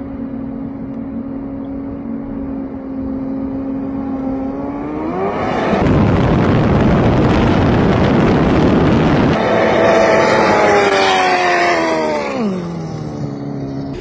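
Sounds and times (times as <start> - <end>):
rush of wind and water: 0.0 - 12.4
jet ski engine whining: 0.0 - 14.0.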